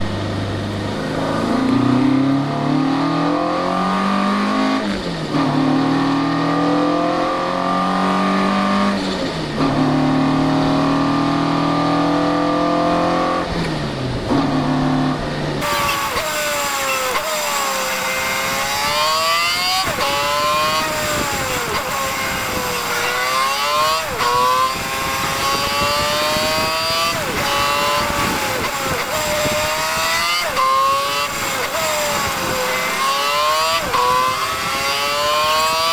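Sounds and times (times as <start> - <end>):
racing car engine revving: 0.0 - 35.9.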